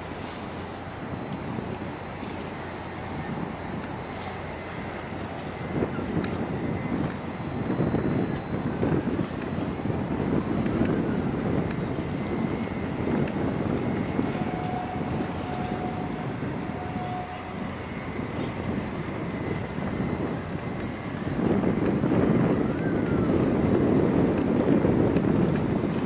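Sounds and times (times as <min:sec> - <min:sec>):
harbour rumble: 0:00.0 - 0:26.0.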